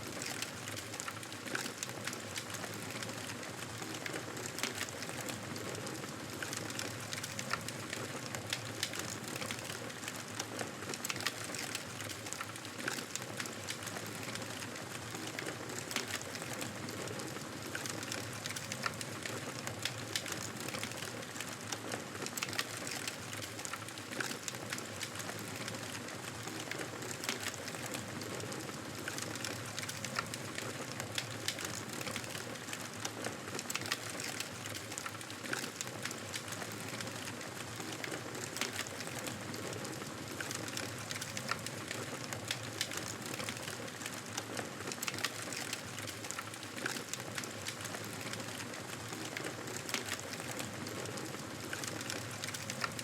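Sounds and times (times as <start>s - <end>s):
fire crackling and popping: 0.1s - 53.0s.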